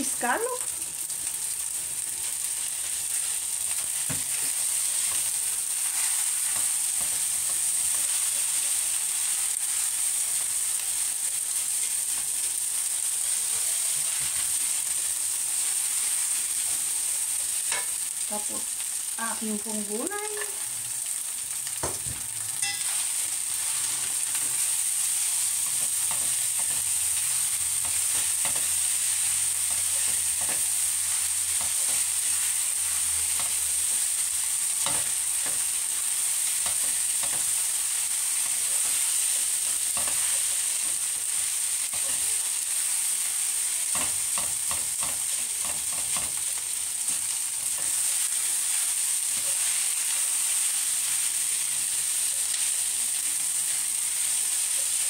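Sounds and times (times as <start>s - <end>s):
rice sizzling in a wok: 0.0s - 55.0s.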